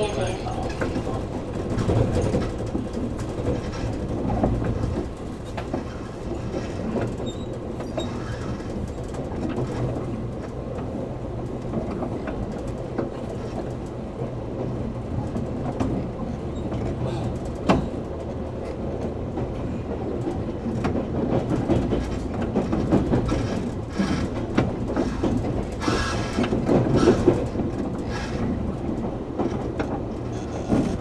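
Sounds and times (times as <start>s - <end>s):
train car rumble: 0.0s - 31.0s
wheels clicking over rails: 0.0s - 31.0s.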